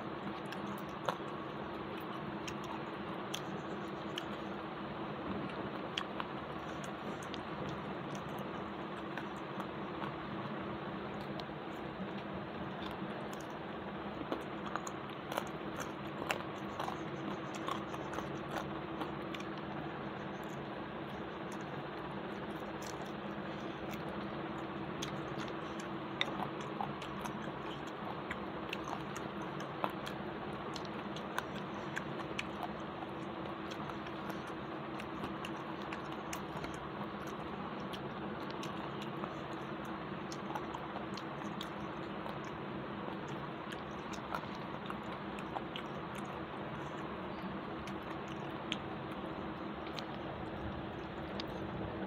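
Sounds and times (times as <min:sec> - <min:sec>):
wet mouth clicks: 0:00.0 - 0:04.6, 0:05.3 - 0:51.8
low background hum: 0:00.0 - 0:52.0
person chewing: 0:00.0 - 0:52.0.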